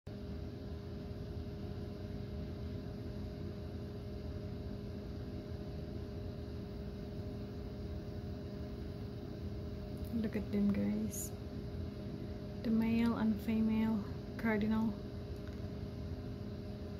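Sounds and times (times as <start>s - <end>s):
low mechanical hum: 0.1s - 16.9s.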